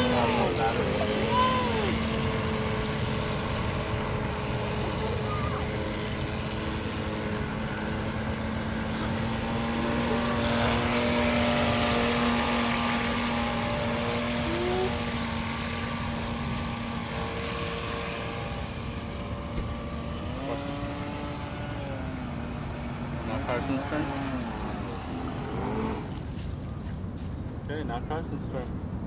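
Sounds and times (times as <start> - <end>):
toy boat motor whine: 0.0 - 26.3.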